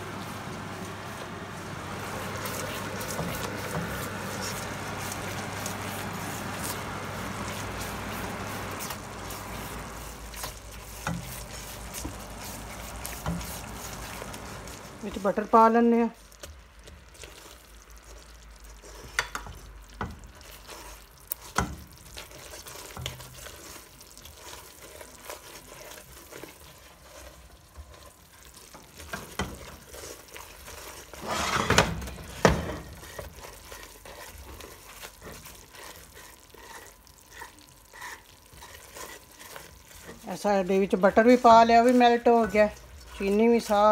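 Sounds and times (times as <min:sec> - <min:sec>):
spatula scraping pot: 0:00.0 - 0:43.9
syrup sizzling and bubbling: 0:00.0 - 0:43.9.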